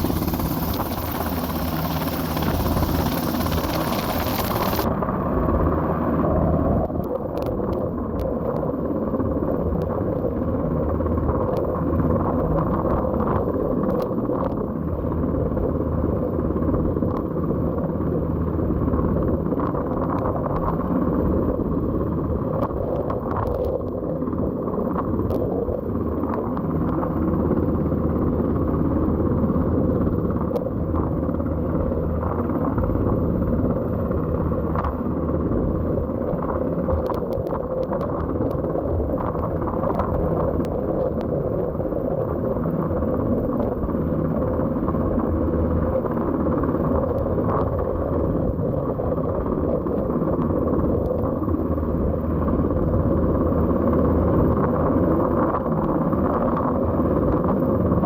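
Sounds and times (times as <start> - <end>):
helicopter rotor drone: 0.0 - 58.0.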